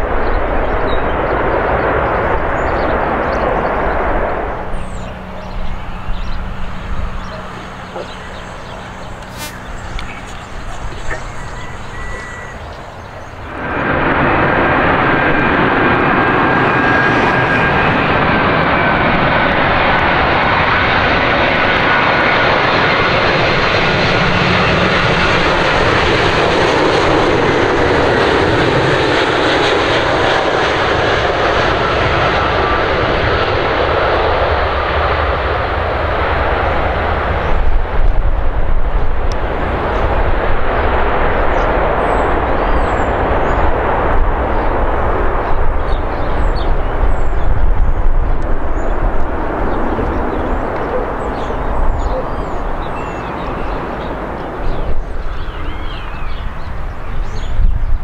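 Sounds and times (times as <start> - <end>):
airliner touching down rumble: 0.0 - 58.0
jet engine roar and whine: 0.0 - 58.0.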